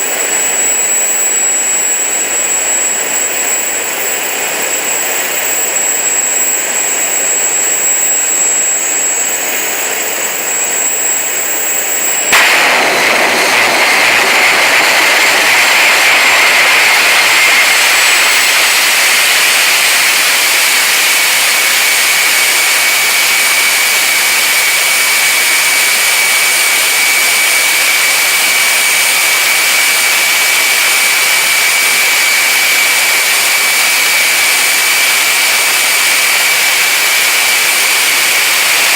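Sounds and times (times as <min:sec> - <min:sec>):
jet engine roaring and whistling: 0:00.0 - 0:38.9.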